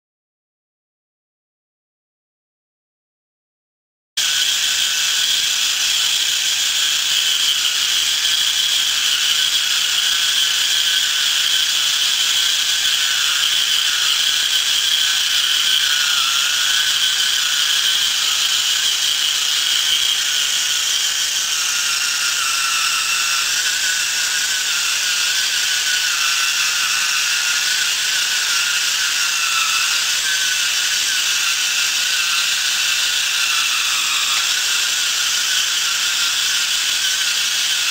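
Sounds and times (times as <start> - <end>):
small electric motor whirring: 4.2 - 37.9.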